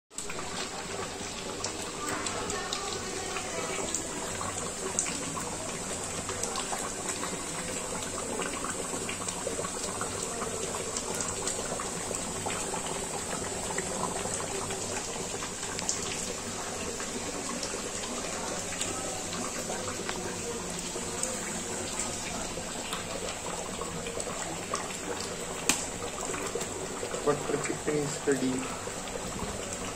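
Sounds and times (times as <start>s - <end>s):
thick gravy bubbling in a pot: 0.1s - 29.9s.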